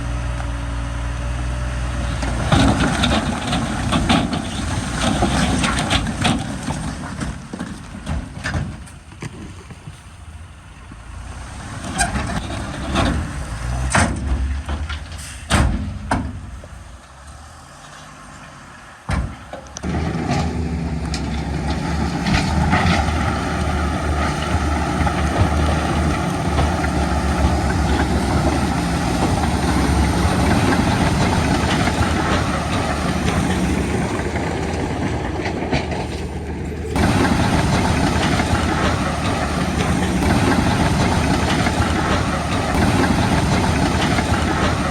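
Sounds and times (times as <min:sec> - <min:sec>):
diesel engine running under load: 0:00.0 - 0:44.9
machinery knocks and clanks: 0:02.0 - 0:09.5, 0:11.9 - 0:16.8, 0:19.1 - 0:44.9.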